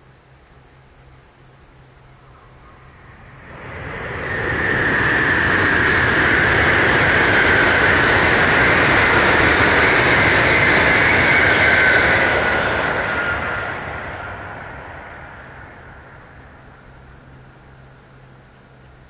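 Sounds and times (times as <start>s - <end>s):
high train whine: 0.0s - 19.0s
train wheel and air rush: 1.8s - 19.0s.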